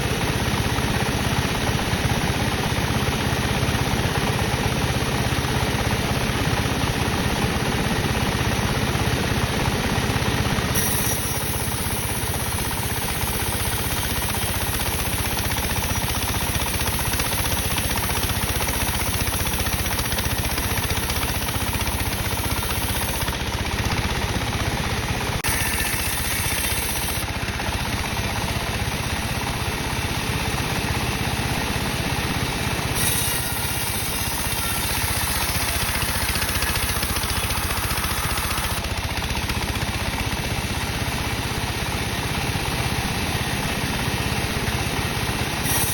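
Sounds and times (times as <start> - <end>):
sawmill saw cutting wood: 7.9 - 45.9.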